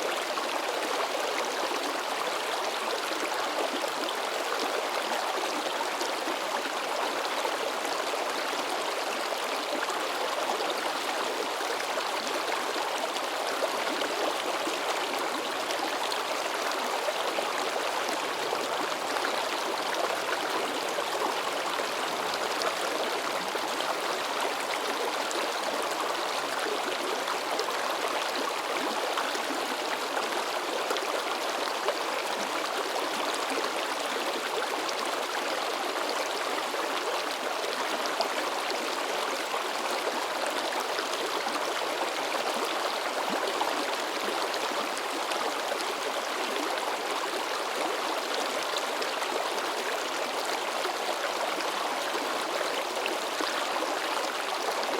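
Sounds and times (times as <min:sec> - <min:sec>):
stream babbling over rocks: 0:00.0 - 0:54.9.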